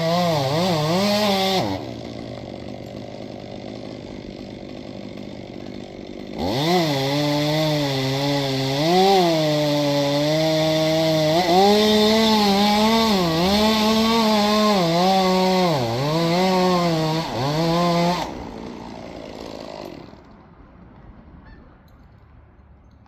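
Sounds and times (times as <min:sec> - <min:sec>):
chainsaw cutting wood: 0:00.0 - 0:20.4.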